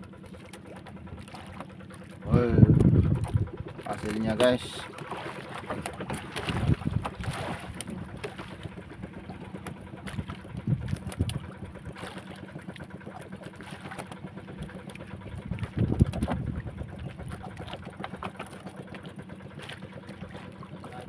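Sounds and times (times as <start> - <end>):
small engine humming: 0.0 - 21.0.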